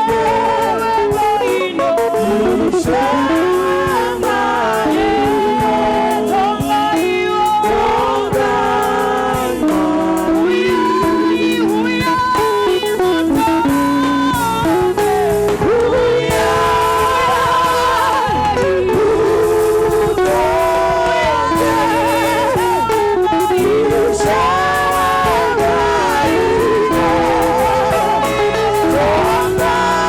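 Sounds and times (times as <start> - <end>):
gospel singing voices: 0.0 - 30.0
guitar accompaniment: 0.0 - 30.0.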